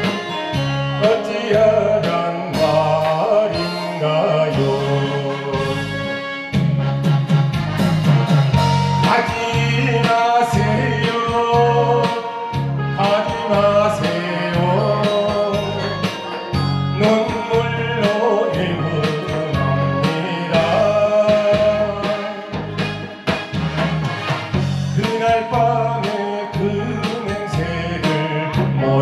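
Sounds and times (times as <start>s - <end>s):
man singing into microphone: 0.0s - 6.2s, 8.9s - 22.6s, 24.9s - 29.0s
backing track with bass beat: 0.0s - 29.0s.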